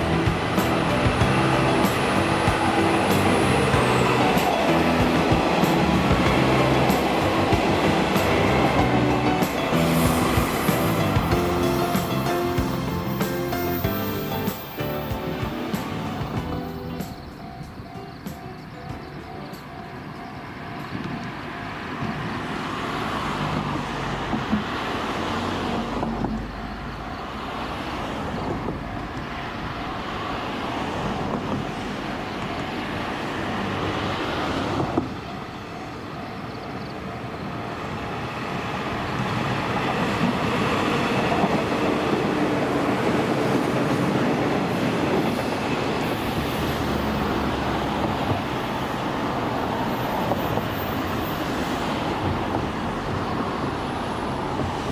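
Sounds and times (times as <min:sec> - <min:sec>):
train running along rails: 0:00.0 - 0:54.9.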